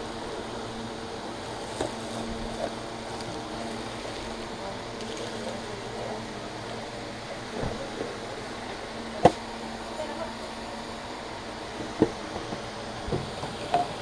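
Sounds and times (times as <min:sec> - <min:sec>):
steady hum and hiss: 0:00.0 - 0:14.0.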